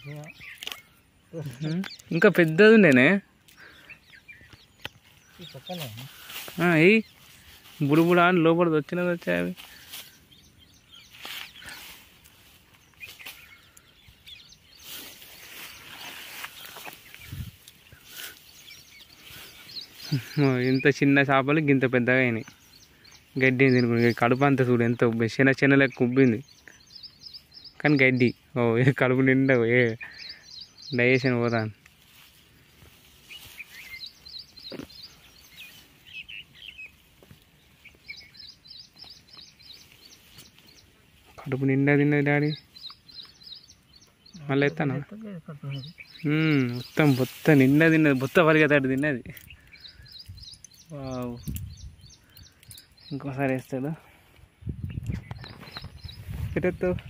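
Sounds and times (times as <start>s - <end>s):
birds chirping: 0.0s - 57.0s
faint outdoor background: 0.0s - 57.0s
grass rustling: 0.0s - 57.0s.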